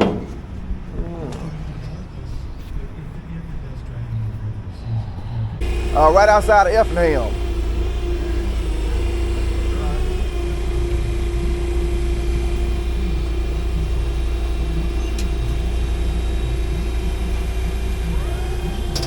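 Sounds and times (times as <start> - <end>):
constant whine: 0.0 - 19.0
road rumble: 0.0 - 19.0
truck engine drone: 0.0 - 19.0.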